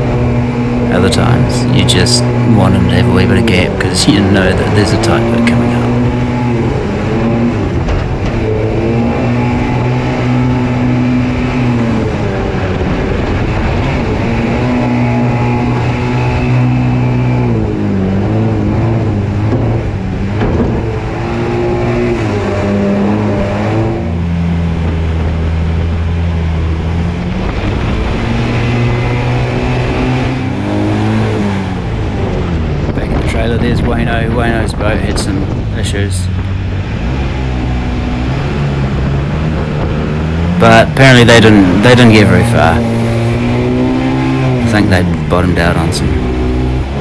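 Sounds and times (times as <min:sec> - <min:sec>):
jet boat engine at high revs: 0:00.0 - 0:47.0.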